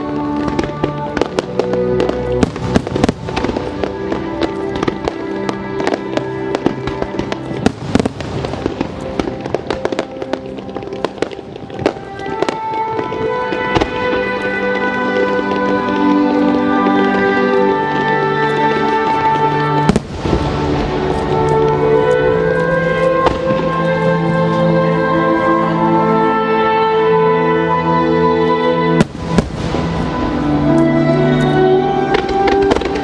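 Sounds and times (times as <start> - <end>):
fireworks bursting and crackling: 0.0 - 26.2, 28.2 - 33.0
music: 0.0 - 33.0.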